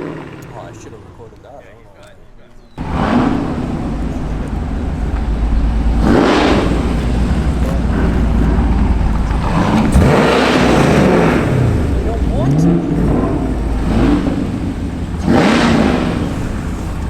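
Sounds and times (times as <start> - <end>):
car engine running loudly: 2.8 - 17.0.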